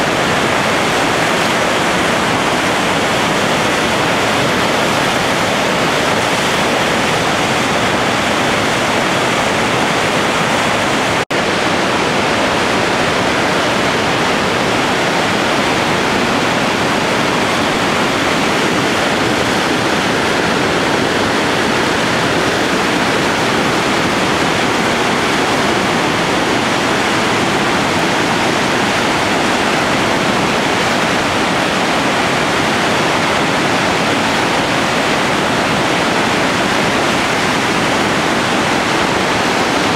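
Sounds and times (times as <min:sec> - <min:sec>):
whitewater rushing over rapids: 0:00.0 - 0:39.9.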